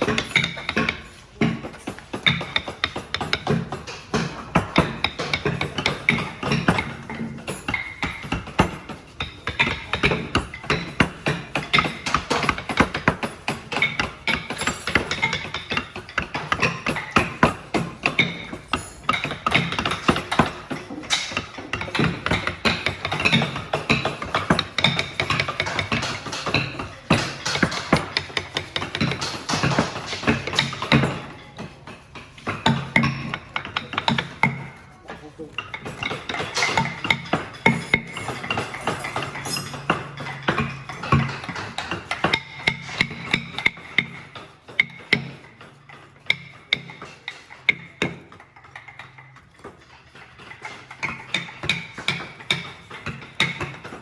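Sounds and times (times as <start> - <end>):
sharp knocks and taps: 0.0 - 54.0.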